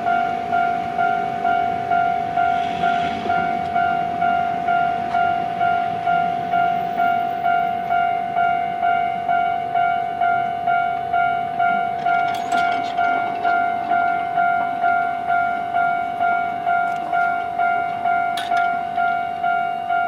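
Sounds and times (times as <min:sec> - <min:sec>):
level crossing bell clanging: 0:00.0 - 0:20.0.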